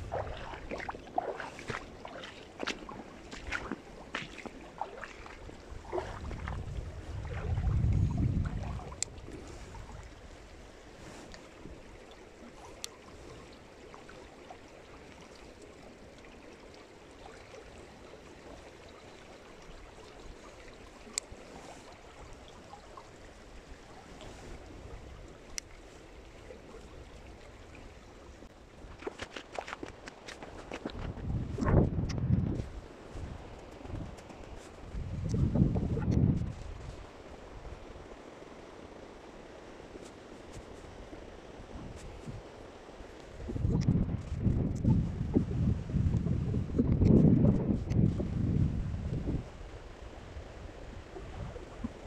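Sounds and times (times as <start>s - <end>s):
flowing water: 0.0s - 52.0s.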